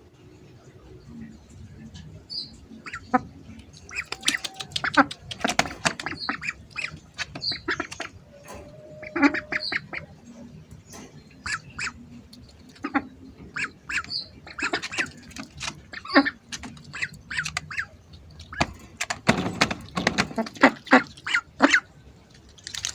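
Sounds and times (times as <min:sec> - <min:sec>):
ducks quacking and squawking: 0:02.3 - 0:21.9.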